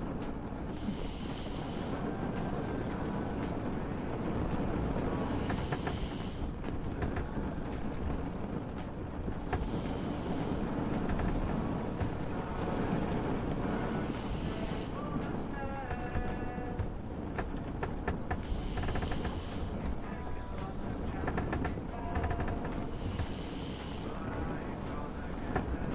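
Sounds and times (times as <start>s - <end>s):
low rumble: 0.0s - 25.9s
rain hiss: 0.0s - 25.9s
small clicks or drips: 0.1s - 25.9s.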